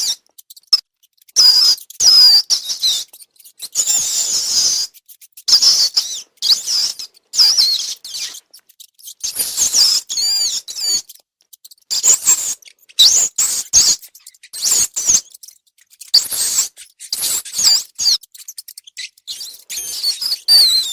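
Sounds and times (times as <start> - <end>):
rats squeaking: 0.0 - 20.9.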